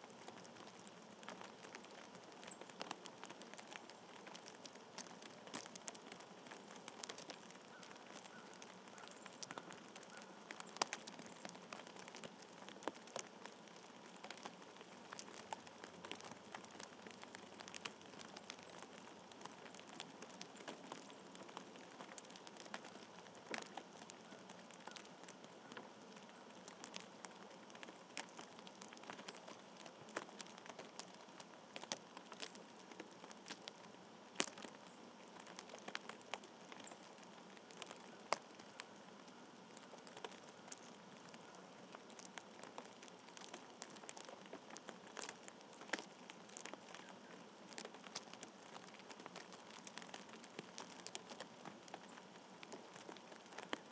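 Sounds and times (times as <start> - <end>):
soft hiss: 0.0 - 53.9
light ticks and taps: 0.2 - 53.9.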